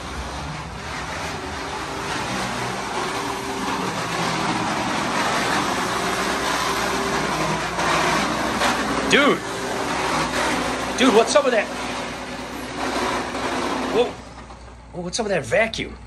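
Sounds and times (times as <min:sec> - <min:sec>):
vacuum cleaner running: 0:00.0 - 0:15.7.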